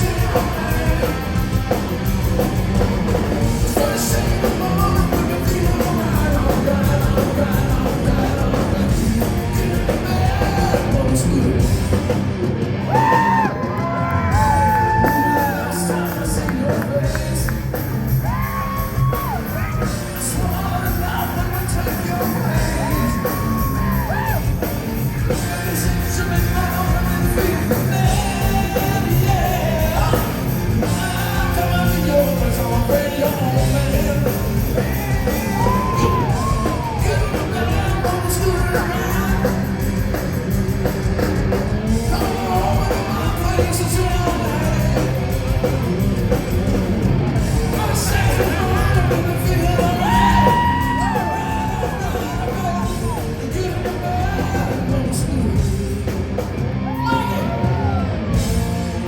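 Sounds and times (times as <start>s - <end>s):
person singing: 0.0s - 2.5s, 3.1s - 11.9s, 12.9s - 40.3s, 41.9s - 45.8s, 47.6s - 56.2s
hard rock band playing: 0.0s - 59.0s.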